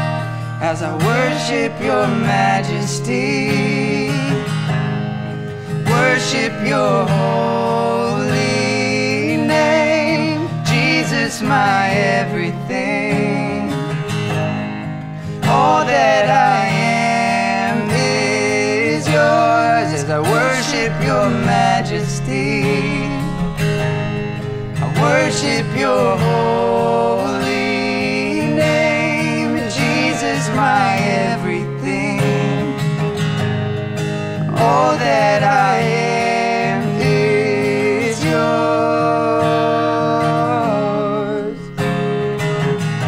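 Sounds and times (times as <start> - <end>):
man singing slow melody: 0.0 - 4.8, 5.6 - 14.4, 15.1 - 33.1, 34.4 - 42.0
strummed acoustic guitar: 0.0 - 43.0.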